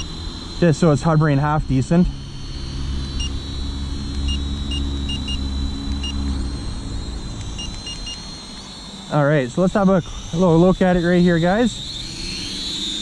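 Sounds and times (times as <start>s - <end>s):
short transmitter beeps: 0.0s - 12.1s
toy quadcopter motors whining: 0.0s - 13.0s.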